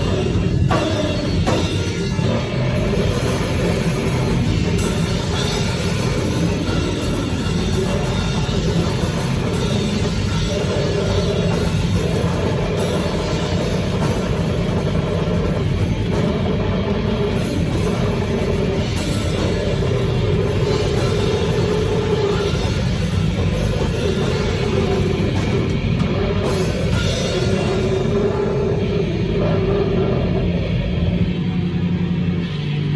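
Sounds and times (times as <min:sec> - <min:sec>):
extreme metal music: 0:00.0 - 0:32.9.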